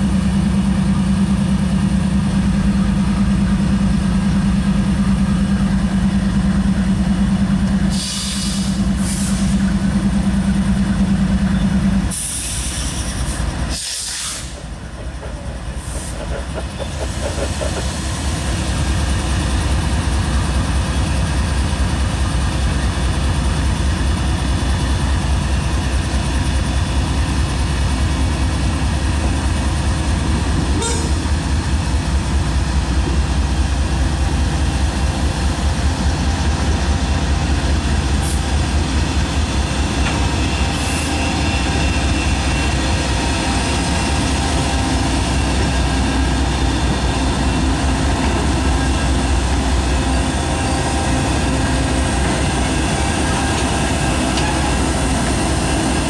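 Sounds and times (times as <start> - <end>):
diesel locomotive engine rumble: 0.0 - 56.0
freight train on rails: 0.0 - 56.0.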